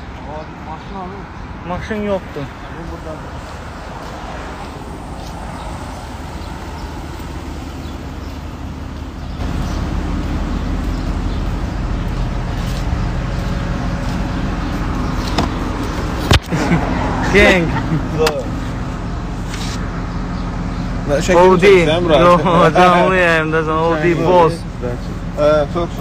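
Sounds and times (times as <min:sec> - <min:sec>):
street traffic: 0:00.0 - 0:26.0
car engine: 0:01.0 - 0:26.0.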